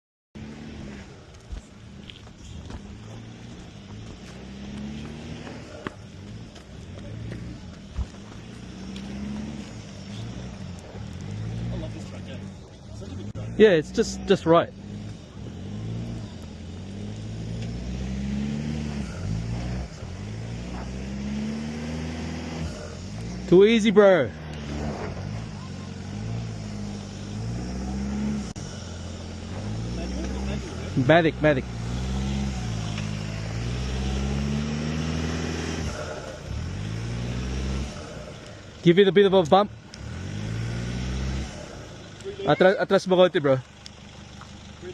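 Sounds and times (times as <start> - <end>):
engine running under load: 0.4 - 44.9.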